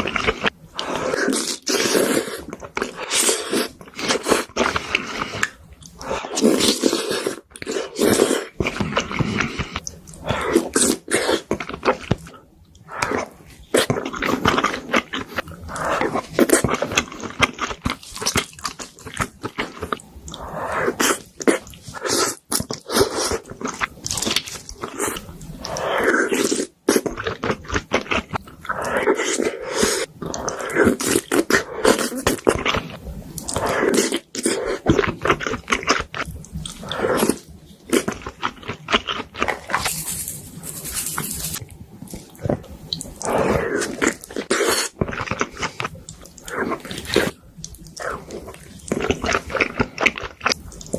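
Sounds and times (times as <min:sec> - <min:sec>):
chewing food: 0:00.0 - 0:50.9.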